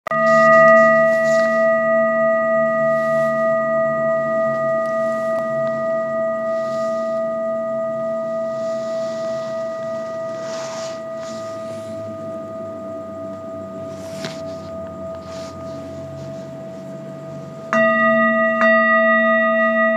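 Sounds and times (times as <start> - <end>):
metal singing bowl ringing: 0.1 - 19.9.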